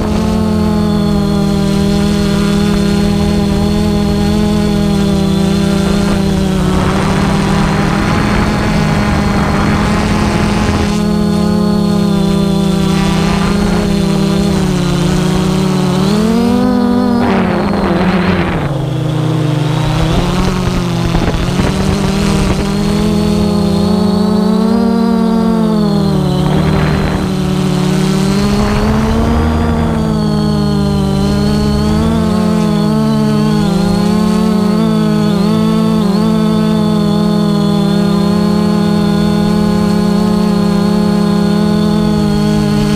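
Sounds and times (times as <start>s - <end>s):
drone propellers humming: 0.0s - 42.9s
high whine: 0.0s - 42.9s
rushes of noise: 0.0s - 42.9s.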